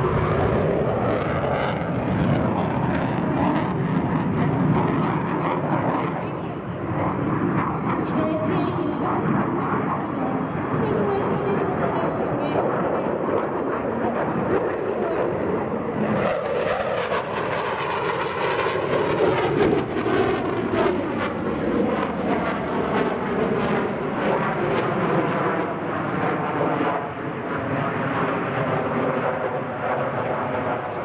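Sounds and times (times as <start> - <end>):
jet engine rushing and whining: 0.0 - 31.0.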